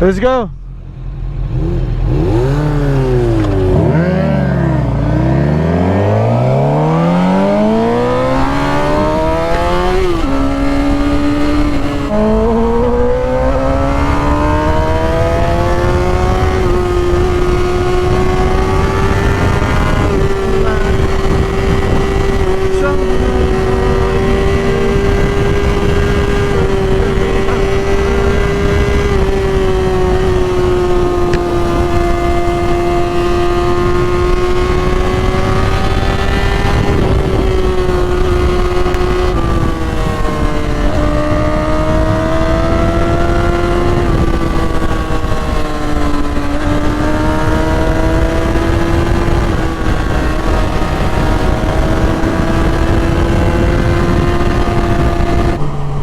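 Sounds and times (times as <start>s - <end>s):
motorcycle engine revving: 0.7s - 56.0s
wind rumble on microphone: 0.7s - 56.0s.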